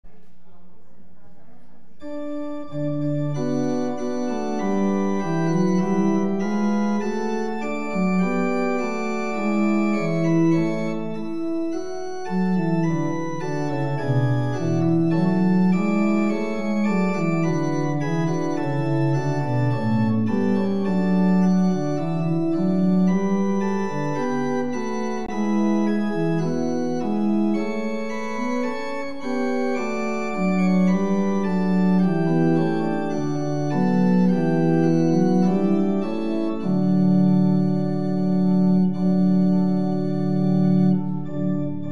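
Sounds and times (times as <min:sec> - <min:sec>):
church organ playing chords: 0:02.0 - 0:41.9.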